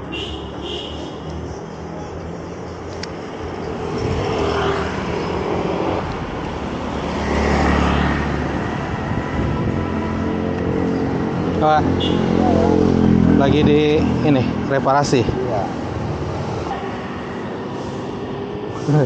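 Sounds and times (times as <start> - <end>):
steady road noise: 0.0 - 19.0
motorbike and car engines passing: 2.4 - 19.0.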